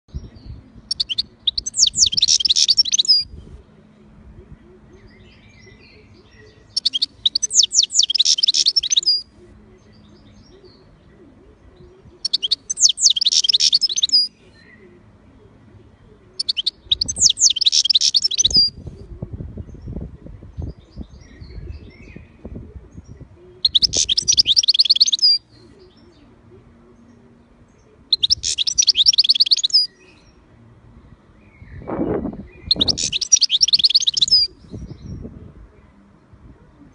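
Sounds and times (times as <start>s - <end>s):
bird twittering song: 0.0s - 3.6s, 4.5s - 15.1s, 15.7s - 36.4s.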